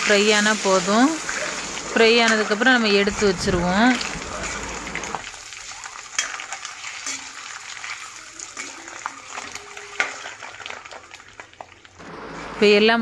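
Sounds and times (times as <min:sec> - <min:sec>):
eggs sizzling in oil: 0:00.0 - 0:12.3.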